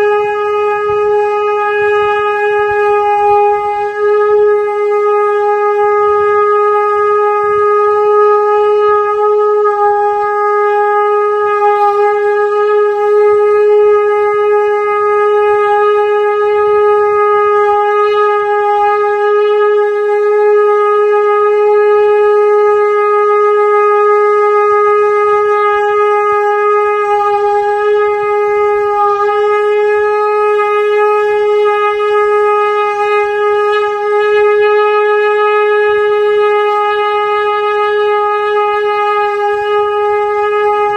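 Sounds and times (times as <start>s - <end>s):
conch shell blown: 0.0s - 40.9s.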